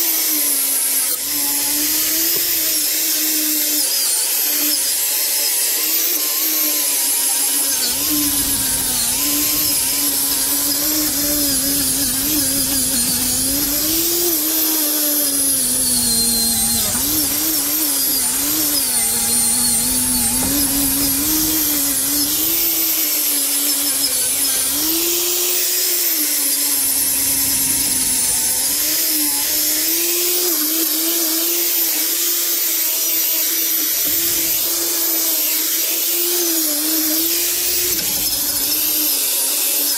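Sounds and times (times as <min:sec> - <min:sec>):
angle grinder scouring metal: 0:00.0 - 0:39.9.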